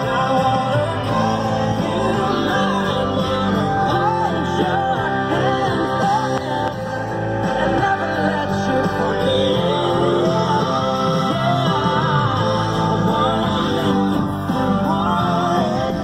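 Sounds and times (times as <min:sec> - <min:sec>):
song with singing and guitar: 0:00.0 - 0:16.0.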